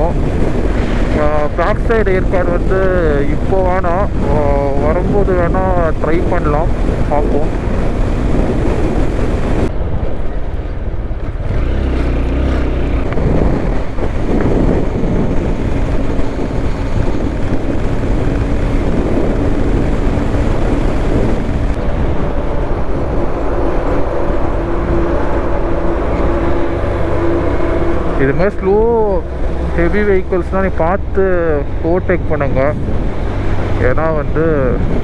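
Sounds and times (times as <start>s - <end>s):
motorcycle engine hum: 0.0s - 35.0s
wind rushing over microphone: 0.0s - 35.0s.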